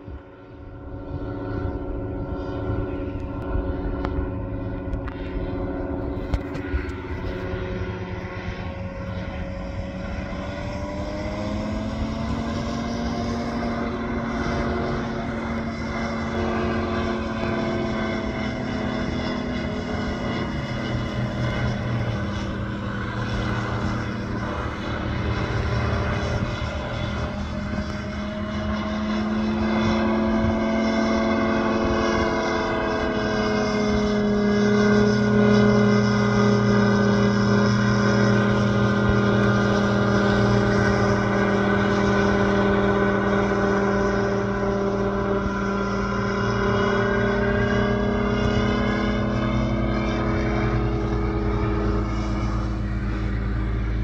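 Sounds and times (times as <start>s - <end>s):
ultralight aircraft engine droning: 0.0s - 54.0s.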